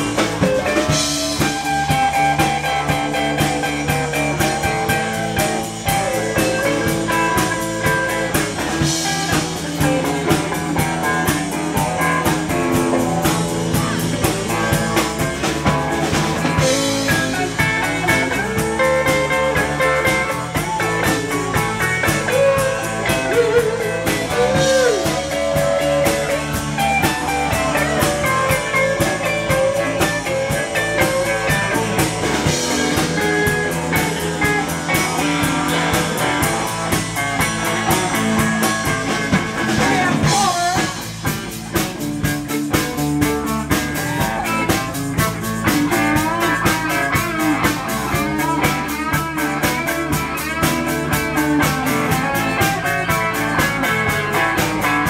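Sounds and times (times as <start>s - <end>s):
lead guitar bending notes: 0.0s - 55.0s
live blues-rock band: 0.0s - 55.0s.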